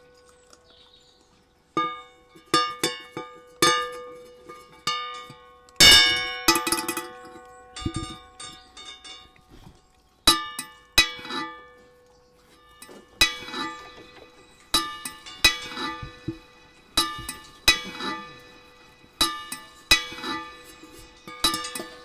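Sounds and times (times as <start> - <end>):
metal saucepans clanking: 1.7 - 22.0.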